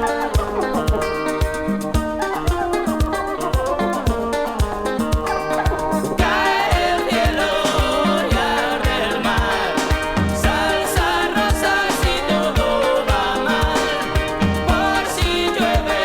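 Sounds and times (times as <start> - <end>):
instrumental pop song: 0.0 - 16.0.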